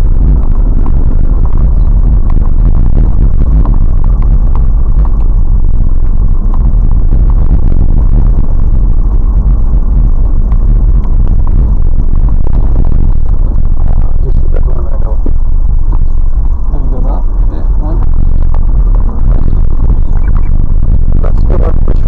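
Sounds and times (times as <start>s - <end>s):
vehicle low rumble: 0.0s - 22.0s.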